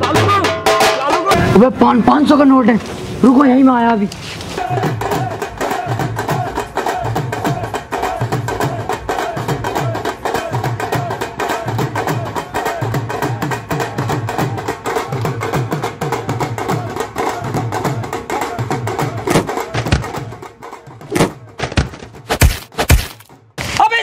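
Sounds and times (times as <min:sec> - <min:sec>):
fast drumming: 0:00.0 - 0:02.5, 0:04.6 - 0:23.9.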